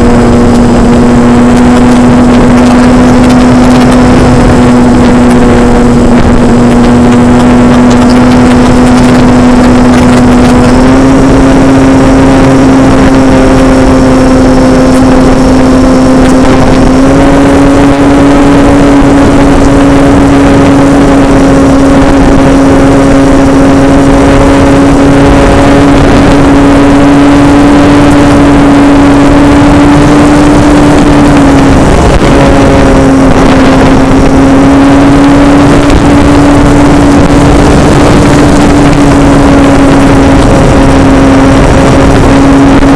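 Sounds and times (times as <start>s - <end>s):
model airplane motor humming: 0.0s - 42.9s
rushing air: 0.0s - 42.9s.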